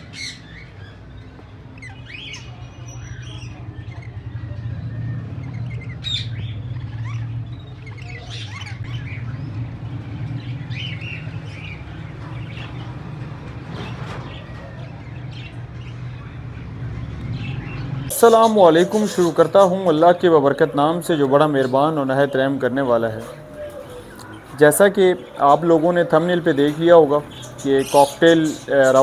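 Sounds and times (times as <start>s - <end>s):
birds chirping and squawking: 0.0s - 29.0s.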